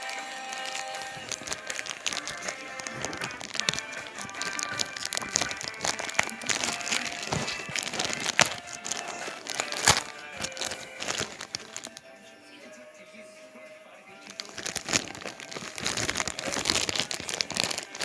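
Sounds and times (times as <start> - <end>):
packaging crinkling and crackling: 0.0 - 12.0, 14.2 - 18.0.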